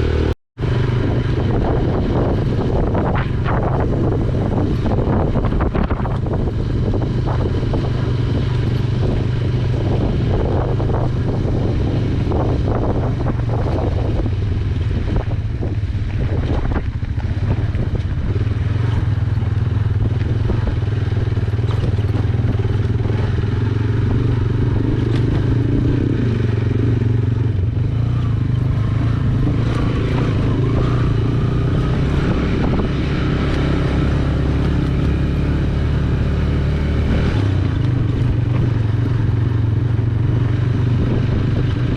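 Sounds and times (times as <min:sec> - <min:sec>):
motorcycle engine running: 0:00.0 - 0:41.9
motorcycle rattling over road: 0:00.0 - 0:41.9.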